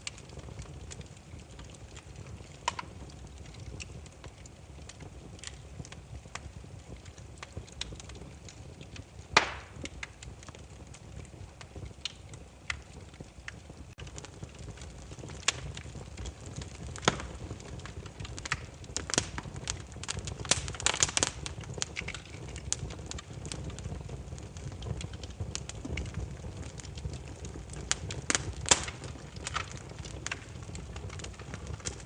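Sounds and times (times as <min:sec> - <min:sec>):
firewood crackling and popping: 0:00.0 - 0:32.0
low rumble of flames: 0:00.0 - 0:32.0.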